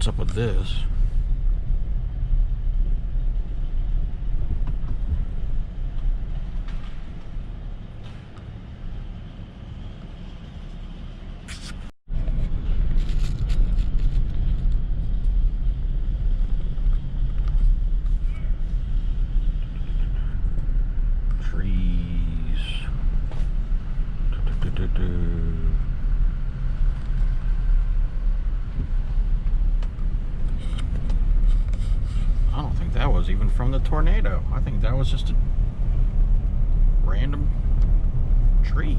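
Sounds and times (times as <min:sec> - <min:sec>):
truck engine and road noise: 0:00.0 - 0:38.9.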